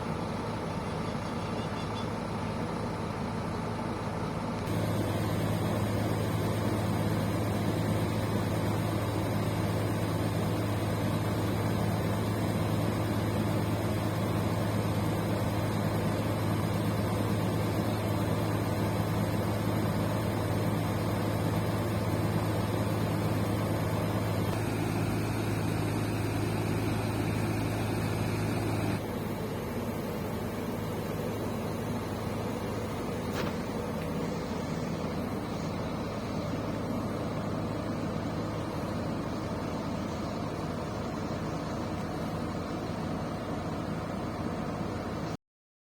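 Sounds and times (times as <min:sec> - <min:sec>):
coach engine humming: 0:00.0 - 0:45.4.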